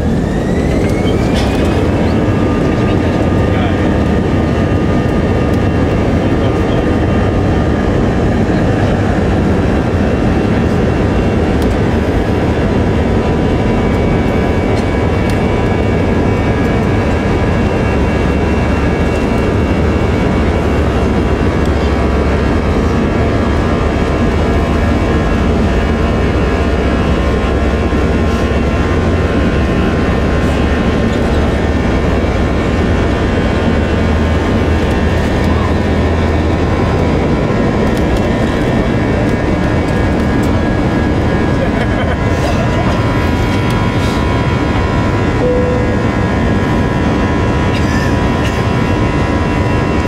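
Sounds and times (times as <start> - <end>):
jet engines in cabin: 0.0 - 50.0.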